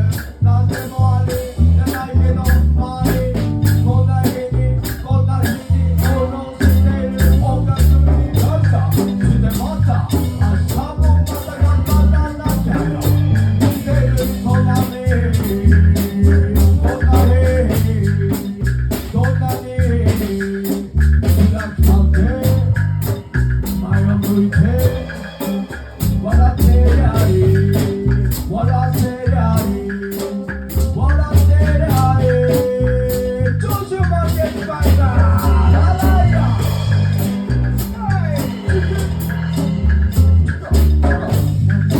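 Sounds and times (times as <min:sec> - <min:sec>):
heavy bass line: 0:00.0 - 0:41.9
lead vocal singing: 0:00.0 - 0:41.9
live band playing: 0:00.0 - 0:41.9.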